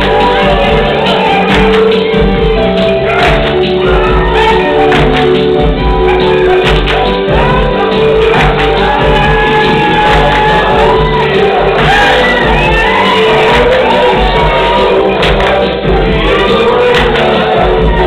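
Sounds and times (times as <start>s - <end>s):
sharp percussion strikes: 0.0s - 18.0s
singing: 0.0s - 18.0s.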